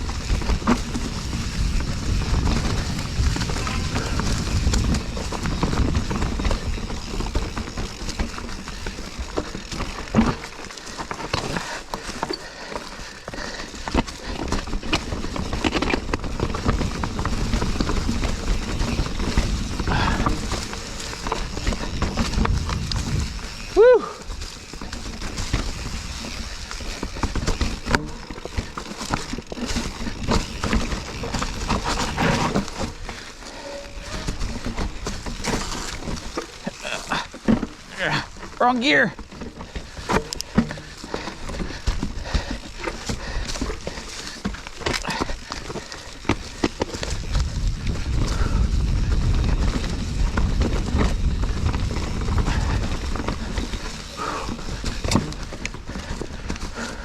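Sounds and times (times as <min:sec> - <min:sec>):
bike and chain rattling: 0:00.0 - 0:57.0
tyres crunching over rock: 0:00.0 - 0:57.0.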